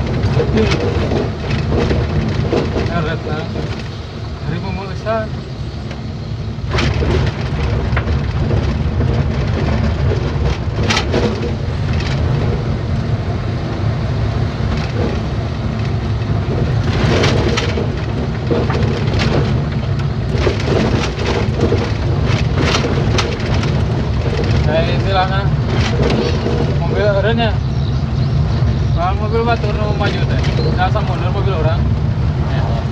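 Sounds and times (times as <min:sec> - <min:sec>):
knocks and rattles: 0:00.0 - 0:27.6, 0:28.6 - 0:32.9
truck engine and road rumble: 0:00.0 - 0:32.9.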